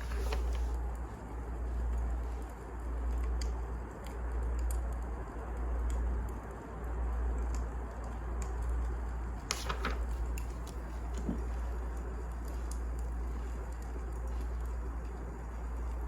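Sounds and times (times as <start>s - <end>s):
wood fire crackling in fireplace: 0.0s - 16.0s.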